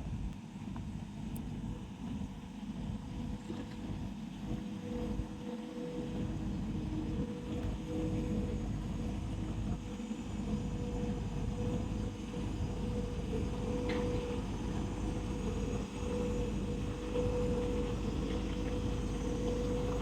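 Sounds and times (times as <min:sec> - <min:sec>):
steady droning tone: 0:02.0 - 0:20.0.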